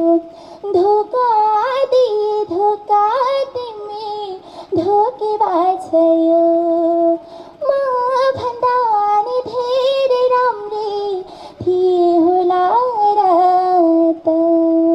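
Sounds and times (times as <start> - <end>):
woman singing into a microphone: 0.0 - 14.9.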